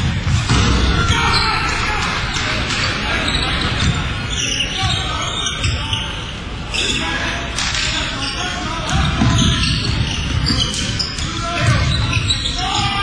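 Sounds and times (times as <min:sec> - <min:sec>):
crowd voices: 0:00.0 - 0:13.0.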